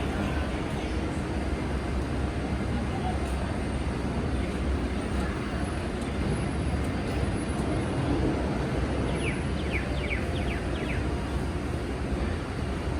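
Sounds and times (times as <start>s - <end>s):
station ambience: 0.0s - 12.9s.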